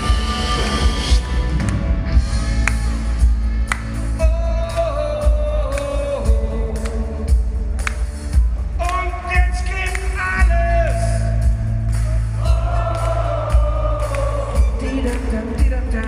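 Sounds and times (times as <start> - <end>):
drums on steady beat: 0.0 - 16.0
heavy bass: 0.0 - 16.0.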